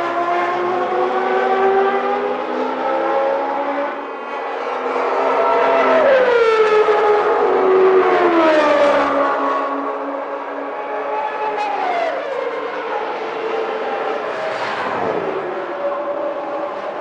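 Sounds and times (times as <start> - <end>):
race car engines at high revs: 0.0 - 17.0.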